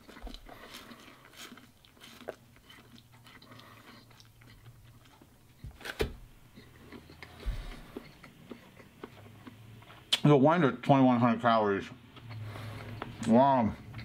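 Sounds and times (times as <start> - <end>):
person chewing noodles: 0.0 - 10.2, 11.9 - 14.0.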